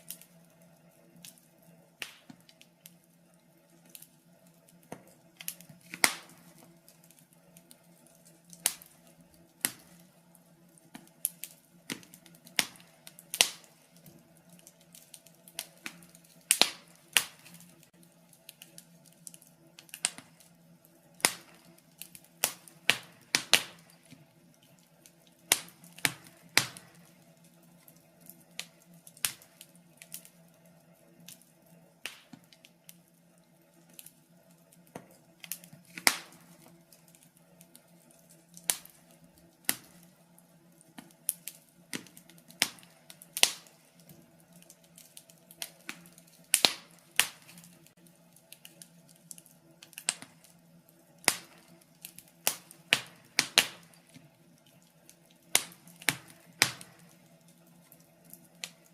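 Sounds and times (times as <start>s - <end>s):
fire crackling and popping: 0.0s - 58.9s.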